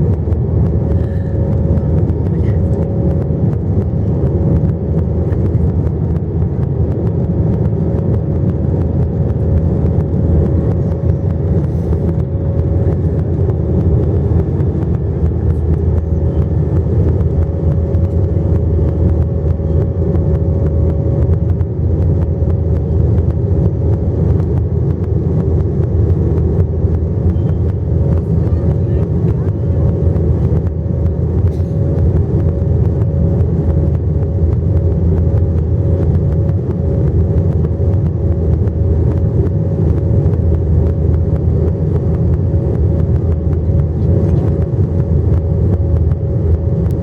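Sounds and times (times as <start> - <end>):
jet engines low rumble: 0.0 - 47.0
thin steady hum: 0.0 - 47.0.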